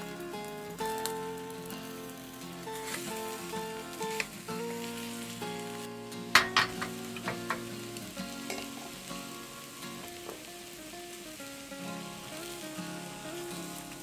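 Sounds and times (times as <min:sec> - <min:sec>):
egg sizzling in oil: 0:00.0 - 0:14.0.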